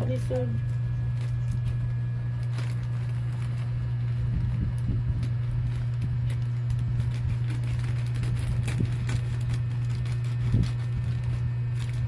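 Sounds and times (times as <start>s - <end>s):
packaging crinkling and rustling: 0.0s - 12.0s
steady low hum: 0.0s - 12.0s.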